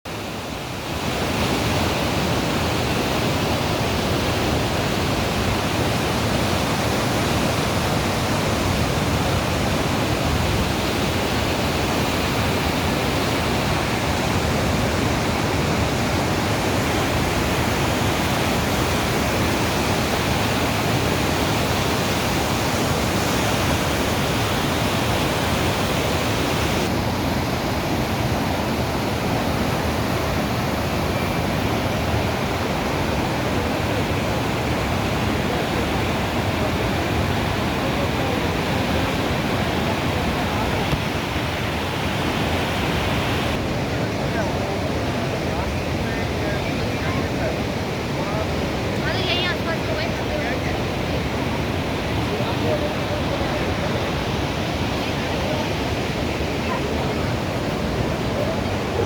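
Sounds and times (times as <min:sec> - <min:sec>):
river water rushing: 0:00.1 - 0:59.0.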